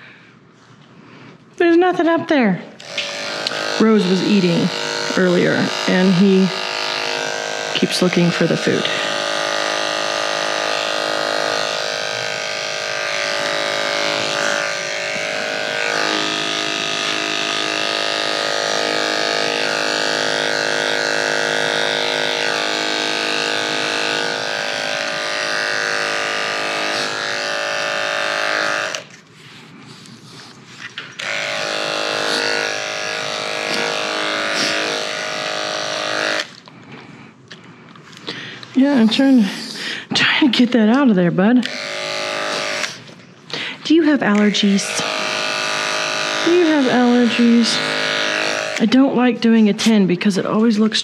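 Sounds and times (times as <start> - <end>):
electric clipper buzzing: 2.7 - 29.2, 30.9 - 36.7, 38.2 - 39.7, 40.5 - 50.0.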